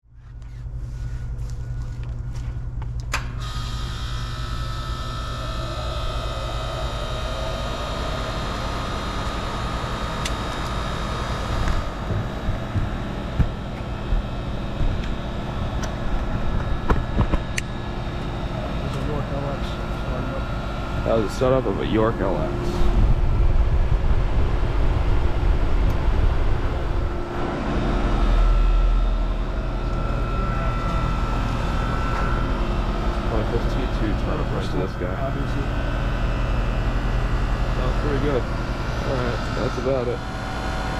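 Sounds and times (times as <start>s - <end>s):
heat pump compressor running: 0.0s - 40.9s
low hum: 0.0s - 40.9s
condenser fan rushing: 0.1s - 40.9s
faint steady whine: 0.1s - 40.9s.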